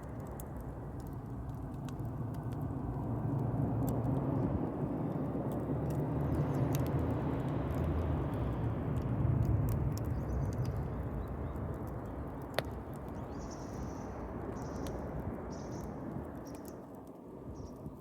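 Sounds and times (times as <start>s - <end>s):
burning wood crackling: 0.0s - 18.0s
low fire rumble: 0.0s - 18.0s.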